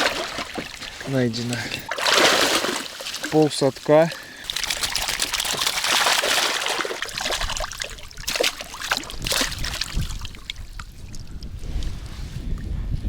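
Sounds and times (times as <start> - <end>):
water splashing and dripping: 0.0 - 11.9.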